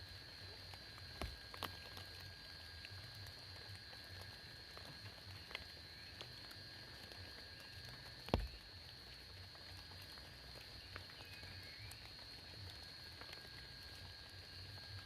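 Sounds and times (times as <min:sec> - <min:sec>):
faint ticks: 0:00.0 - 0:15.0.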